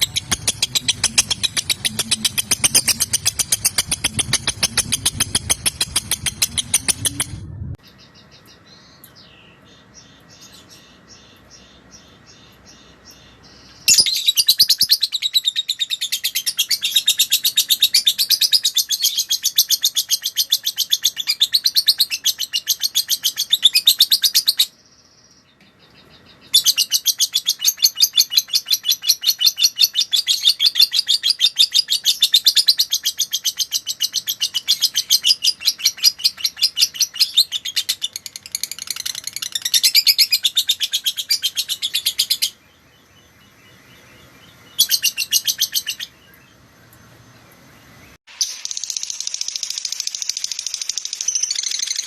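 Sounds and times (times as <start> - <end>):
lovebird chattering song: 0.0 - 24.8, 25.4 - 46.6, 48.3 - 52.0.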